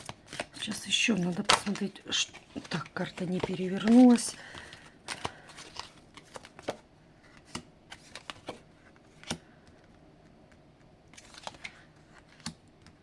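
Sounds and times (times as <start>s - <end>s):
cards being shuffled: 0.0s - 9.9s, 11.1s - 13.0s.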